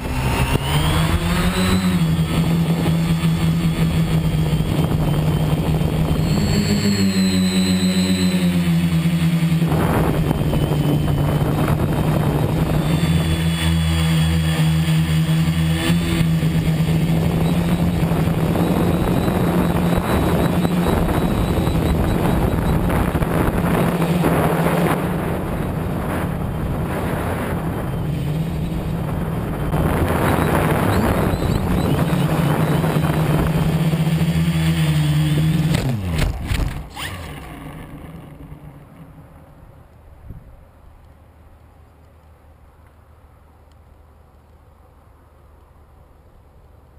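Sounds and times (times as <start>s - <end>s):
electric motors and propellers buzzing: 0.0s - 40.1s.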